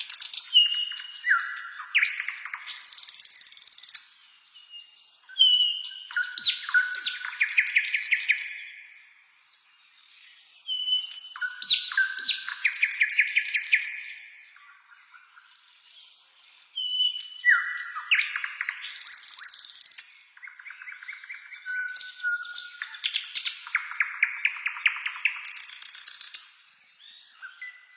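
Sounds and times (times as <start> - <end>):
songbird singing: 0.0 - 27.9.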